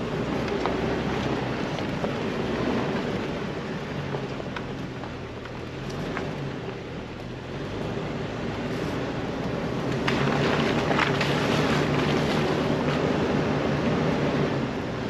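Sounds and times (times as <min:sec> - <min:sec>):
car engine running low: 0:00.0 - 0:15.0.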